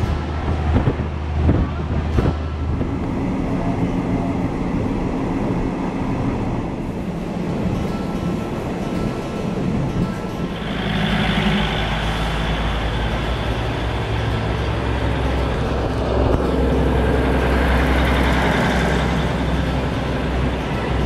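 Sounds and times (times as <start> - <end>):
heavy diesel engine rumbling: 0.0 - 21.0.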